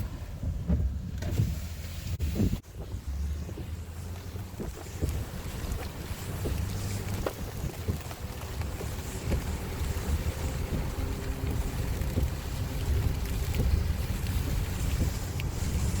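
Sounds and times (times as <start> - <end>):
wind gusting against microphone: 0.2 - 16.0
water noise: 1.3 - 16.0.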